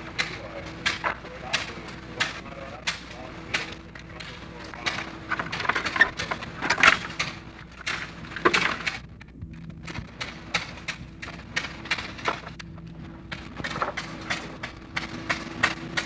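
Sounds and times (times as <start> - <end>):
low steady hum: 0.0 - 16.0
film soundtrack crackling knocks: 0.1 - 16.0.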